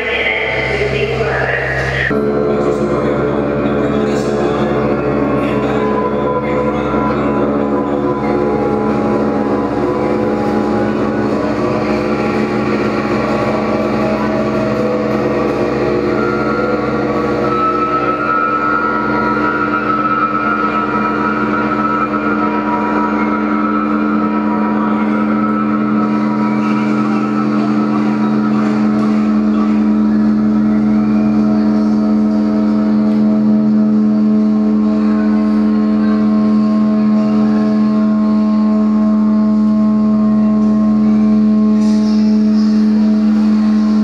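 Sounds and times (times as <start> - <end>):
electric guitar feedback drone: 0.0 - 44.0.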